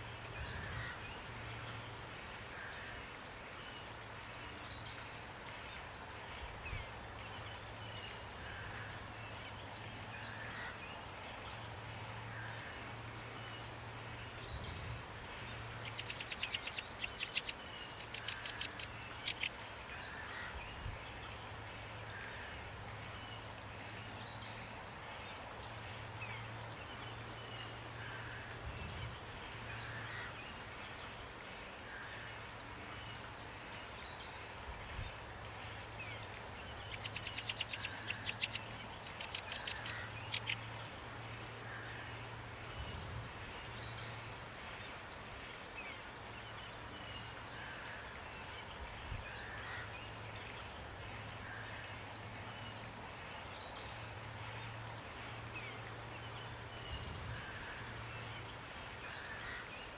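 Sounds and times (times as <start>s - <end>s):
small songbirds chirping: 0.0s - 59.9s
steady rain falling: 0.0s - 59.9s.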